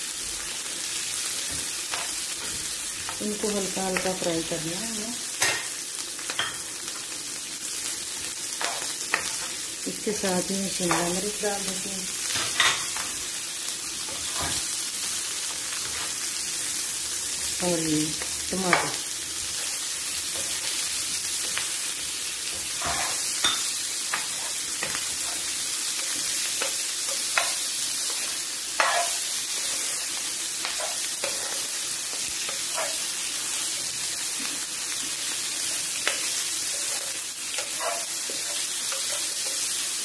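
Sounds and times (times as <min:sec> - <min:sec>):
vegetables sizzling in oil: 0:00.0 - 0:40.0.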